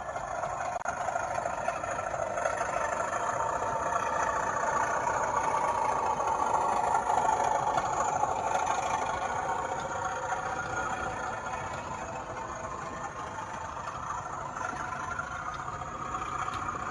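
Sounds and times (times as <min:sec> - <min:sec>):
model train whirring on track: 0:00.0 - 0:16.9.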